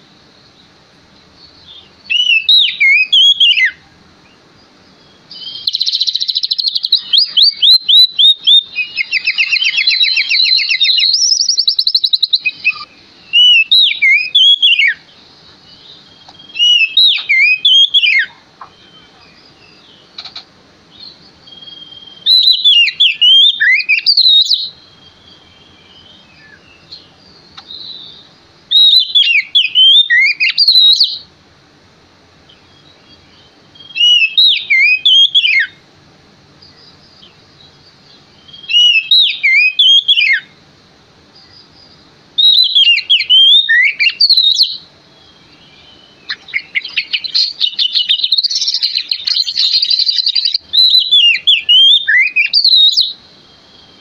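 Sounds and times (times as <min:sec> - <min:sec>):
magpie-robin whistled song: 0:00.0 - 0:20.3, 0:20.9 - 0:31.3, 0:32.5 - 0:35.8, 0:36.6 - 0:40.6, 0:41.4 - 0:54.0.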